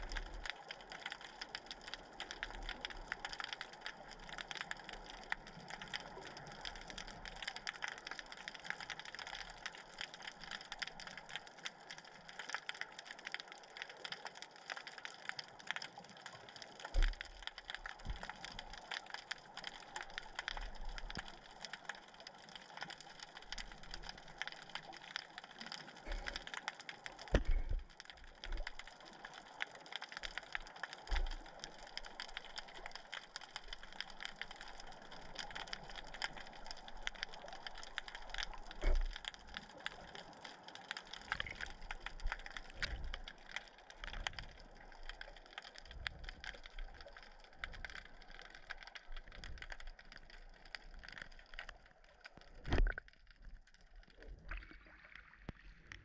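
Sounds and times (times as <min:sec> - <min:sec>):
underwater crackle of clicks: 0:00.0 - 0:56.0.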